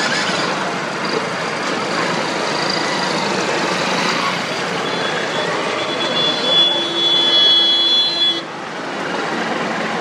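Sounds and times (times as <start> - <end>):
vehicles passing: 0.0 - 7.4, 8.0 - 10.0
road traffic: 0.0 - 10.0.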